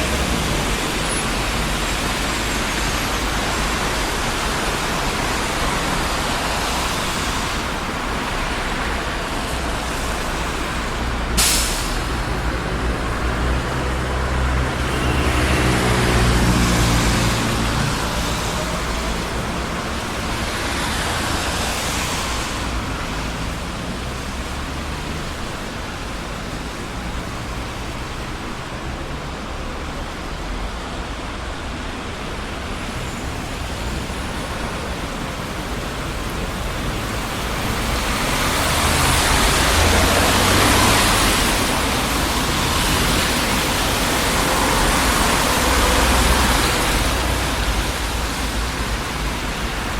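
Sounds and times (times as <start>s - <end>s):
road traffic: 0.0s - 49.9s
vehicles passing: 0.0s - 49.9s.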